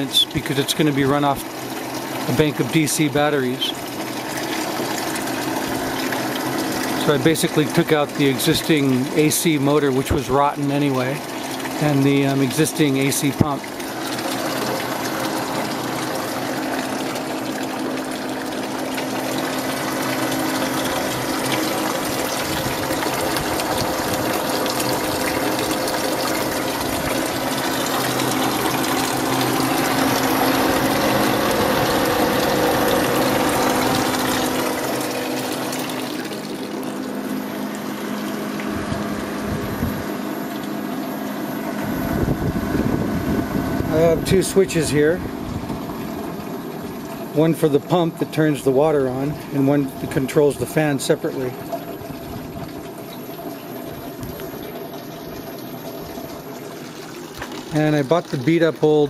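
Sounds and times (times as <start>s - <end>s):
fan humming: 0.0s - 59.0s
water pouring and splashing: 0.0s - 59.0s.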